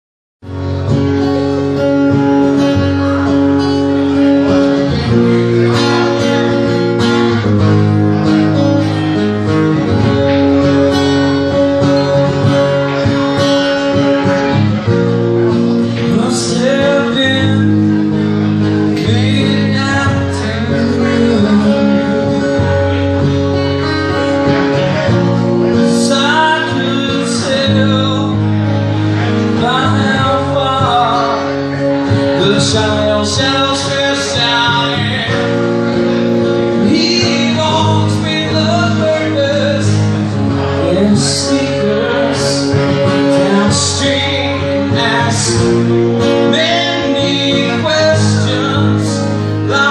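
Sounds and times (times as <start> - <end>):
acoustic guitars strumming: 0.4 - 49.9
man singing: 2.5 - 49.9.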